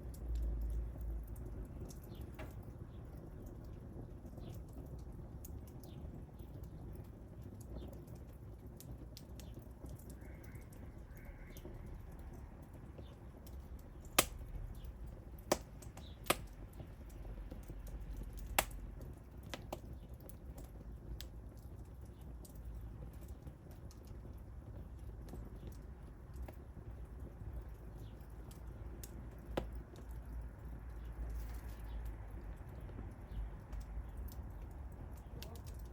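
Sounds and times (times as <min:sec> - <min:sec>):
low rumble of burning: 0:00.0 - 0:35.9
wood fire crackling: 0:00.0 - 0:35.9.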